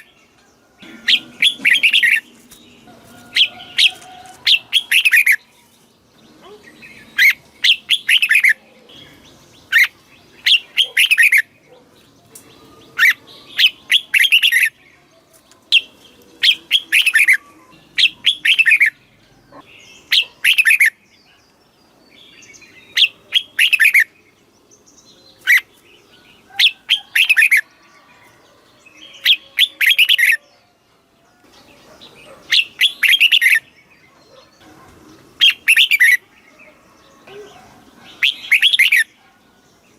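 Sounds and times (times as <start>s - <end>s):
bulbul singing: 0.0s - 27.8s, 28.8s - 30.6s, 31.4s - 39.9s.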